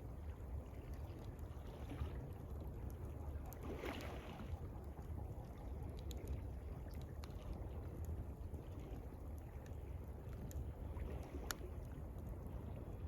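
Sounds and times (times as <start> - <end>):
water gently lapping: 0.0 - 13.0.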